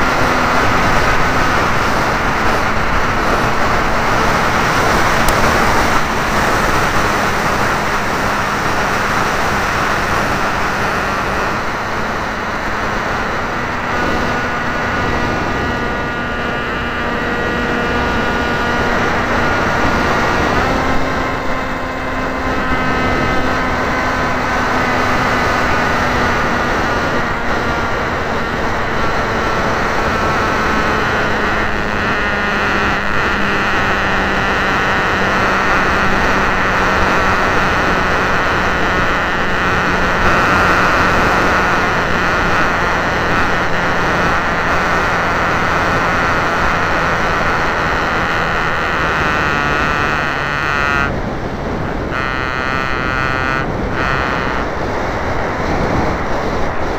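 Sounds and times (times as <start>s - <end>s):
model airplane motor drone: 0.0s - 56.9s
wind rush on microphone: 0.0s - 56.9s.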